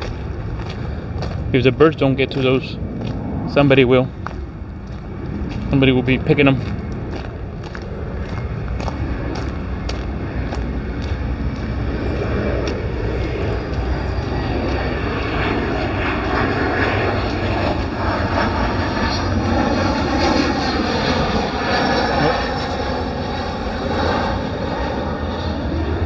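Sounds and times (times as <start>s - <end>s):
airplane engine rumble: 0.0s - 26.0s.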